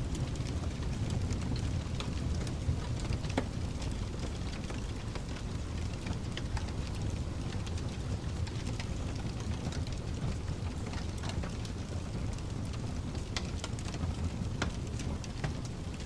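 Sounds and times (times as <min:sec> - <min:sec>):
wood fire crackling: 0:00.0 - 0:16.0
fire pops and snaps: 0:00.1 - 0:16.0.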